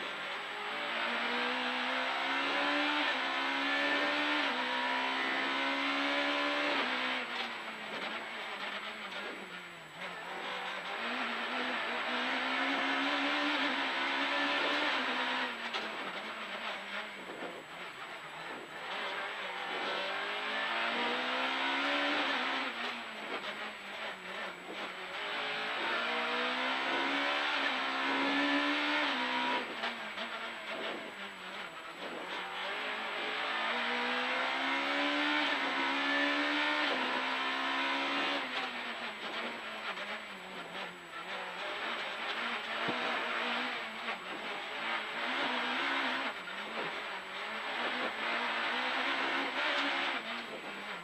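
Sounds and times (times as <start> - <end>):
car engine accelerating through gears: 0.0 - 51.0.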